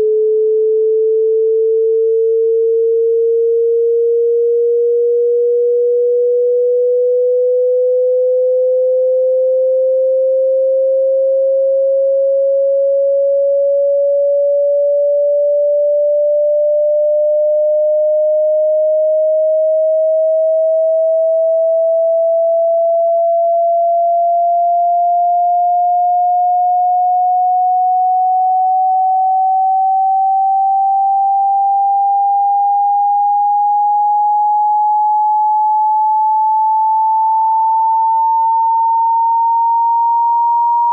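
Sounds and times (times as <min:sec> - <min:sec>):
rising sine tone sweep: 0:00.0 - 0:40.9.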